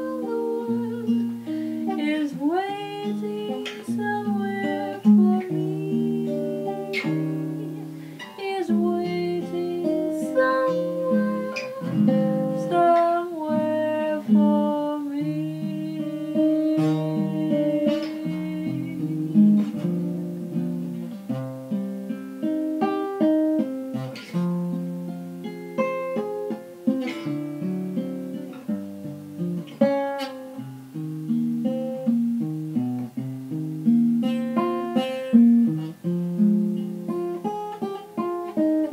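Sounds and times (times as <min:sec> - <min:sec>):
guitar playing chords and melody: 0:00.0 - 0:38.9.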